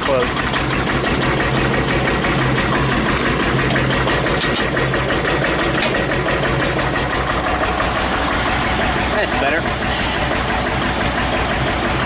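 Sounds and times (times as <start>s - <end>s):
diesel generator running: 0.0s - 12.0s.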